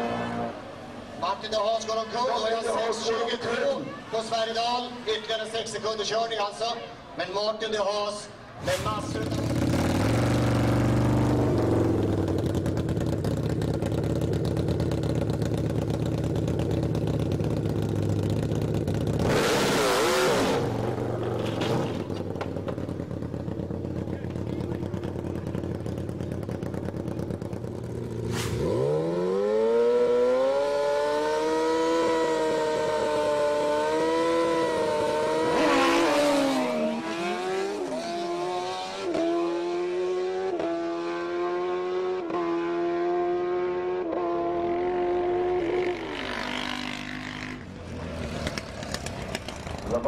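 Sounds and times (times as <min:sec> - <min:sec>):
motorcycle engines revving: 0:08.6 - 0:50.0.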